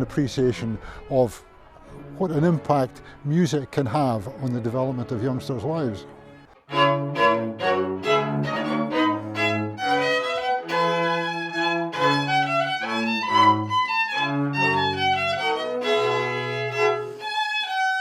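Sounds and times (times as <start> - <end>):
string ensemble playing: 0.0 - 18.0.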